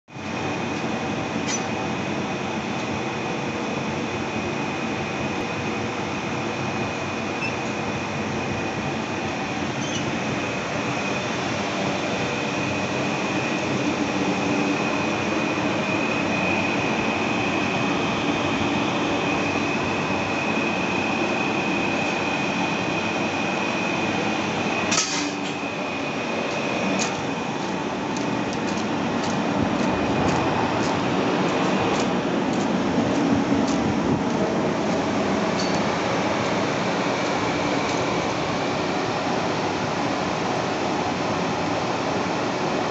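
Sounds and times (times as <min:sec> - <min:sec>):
cooling equipment whirring: 0:00.1 - 0:42.9
high whine: 0:00.1 - 0:42.9.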